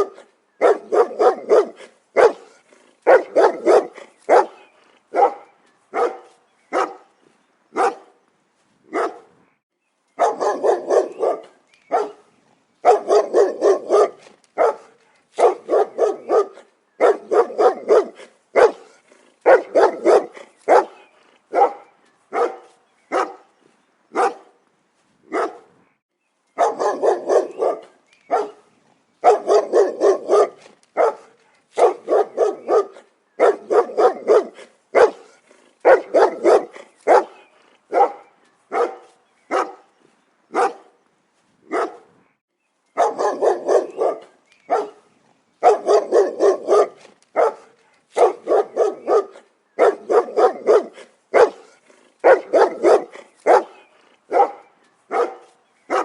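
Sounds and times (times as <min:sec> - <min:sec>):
dog barking: 0:00.0 - 0:07.1, 0:07.7 - 0:08.1, 0:08.9 - 0:09.3, 0:10.2 - 0:12.2, 0:12.8 - 0:23.5, 0:24.1 - 0:24.5, 0:25.3 - 0:25.7, 0:26.6 - 0:28.6, 0:29.2 - 0:39.9, 0:40.5 - 0:41.0, 0:41.7 - 0:42.1, 0:43.0 - 0:56.0.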